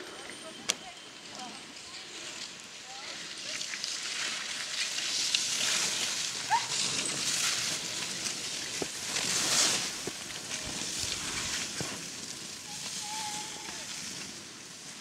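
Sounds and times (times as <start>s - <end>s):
skis scraping over snow: 1.4s - 15.0s.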